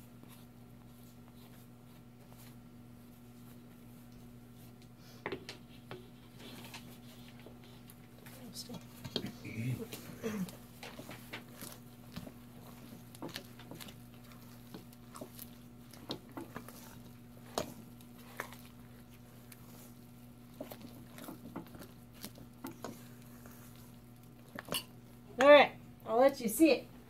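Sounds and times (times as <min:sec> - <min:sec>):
spatula stirring batter in bowl: 0:00.0 - 0:26.8.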